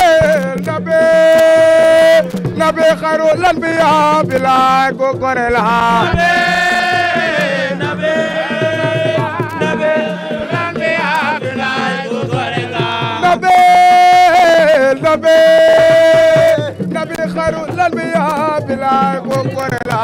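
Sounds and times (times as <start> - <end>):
person singing into microphone: 0.0 - 20.0
steady drum rhythm: 0.0 - 20.0.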